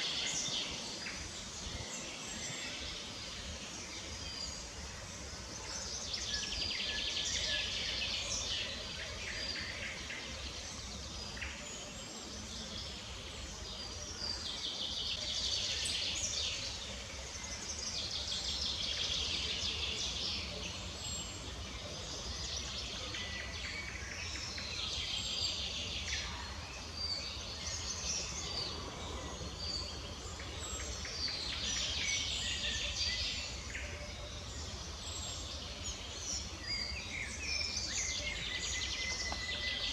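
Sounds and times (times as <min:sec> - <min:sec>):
small birds singing: 0:00.0 - 0:39.9.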